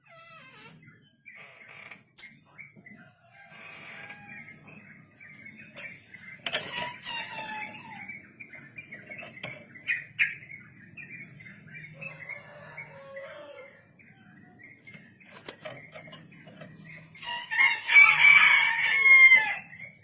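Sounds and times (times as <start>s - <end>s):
bird singing chattering song: 0.0s - 20.0s.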